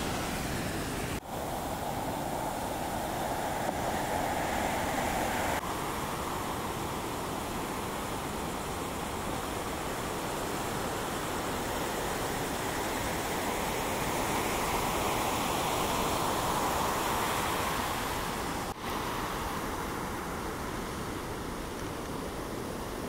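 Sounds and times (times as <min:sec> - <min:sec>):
heavy ocean surf breaking: 0:00.0 - 0:23.0.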